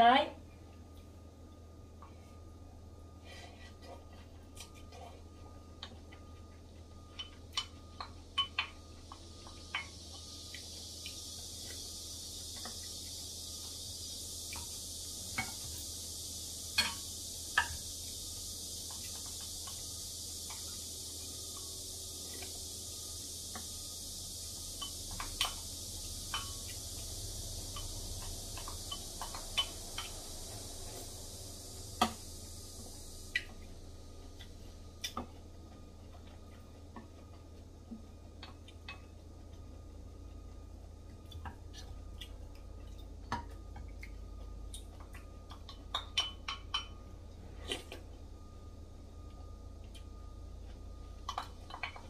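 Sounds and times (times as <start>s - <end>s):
steady hiss: 3.1s - 48.6s.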